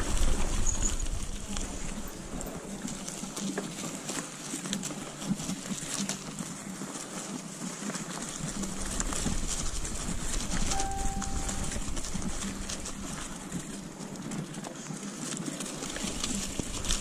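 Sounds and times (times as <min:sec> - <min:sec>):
bicycle tyres on dry leaves: 0:00.0 - 0:17.0
bike rattling and clicking: 0:00.0 - 0:17.0.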